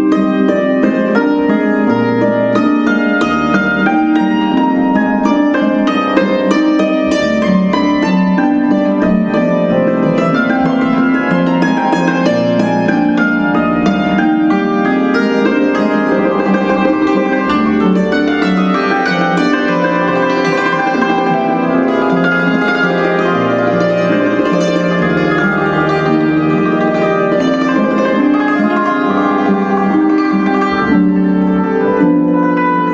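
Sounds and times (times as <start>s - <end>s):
harp music: 0.0s - 32.9s.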